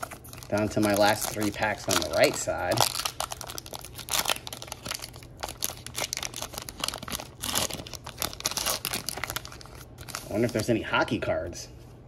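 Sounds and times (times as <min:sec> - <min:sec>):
wrapper crinkling and tearing: 0:00.0 - 0:10.8.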